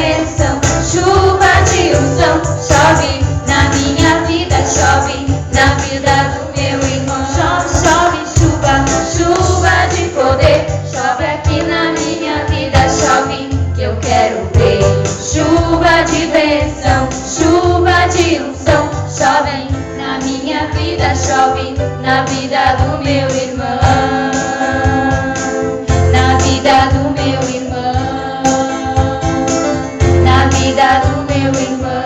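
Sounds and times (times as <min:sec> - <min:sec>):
bass line: 0:00.0 - 0:19.9, 0:20.6 - 0:28.2, 0:29.0 - 0:31.6
jingling percussion beat: 0:00.0 - 0:31.8
voices singing worship song: 0:00.0 - 0:32.0.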